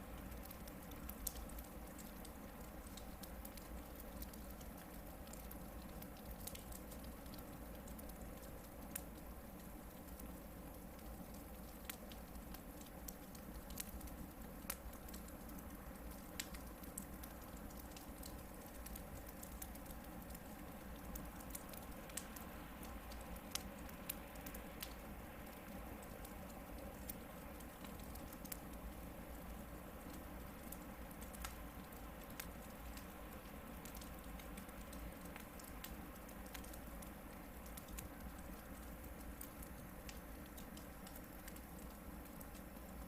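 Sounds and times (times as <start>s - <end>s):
campfire crackling and popping: 0.0s - 43.0s
low rumble of flames: 0.0s - 43.0s.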